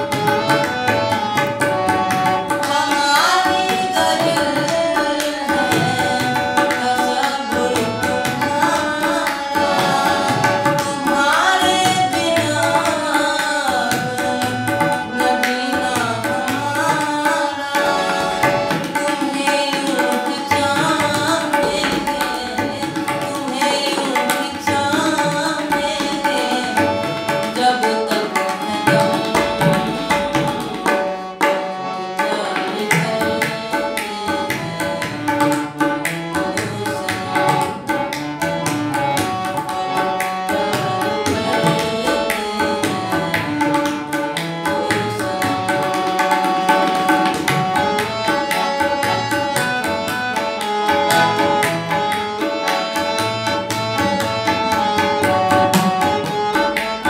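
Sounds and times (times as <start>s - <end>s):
harmonium melody: 0.0s - 57.0s
tabla rhythm: 0.0s - 57.0s.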